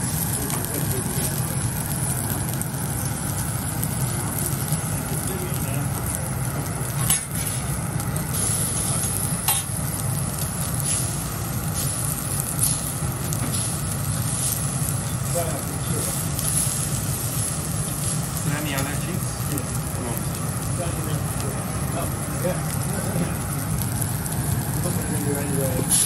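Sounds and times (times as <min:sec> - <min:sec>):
food sizzling on griddle: 0:00.0 - 0:26.0.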